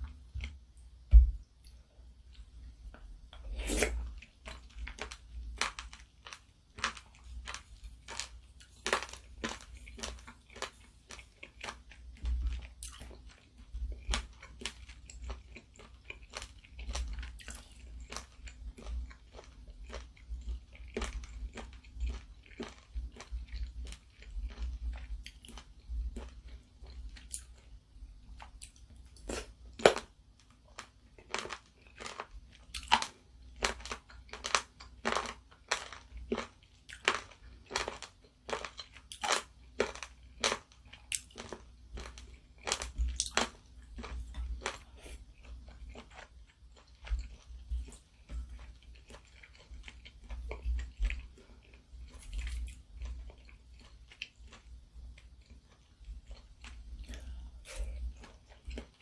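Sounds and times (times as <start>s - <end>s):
wet crunchy chewing: 3.6s - 27.7s, 30.7s - 59.0s.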